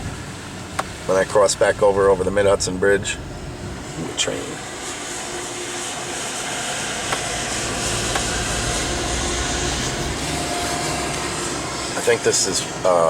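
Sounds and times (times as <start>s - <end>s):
car running noise: 0.0s - 13.0s
train passing rumble and hiss: 0.0s - 13.0s.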